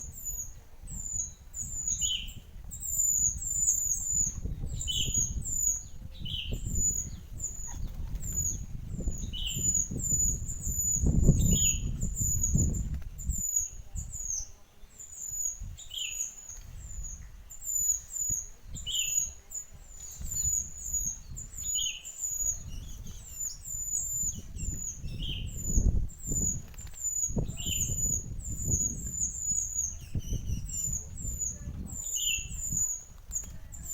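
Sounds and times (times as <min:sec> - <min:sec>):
songbird chirping high notes: 0:00.0 - 0:33.9.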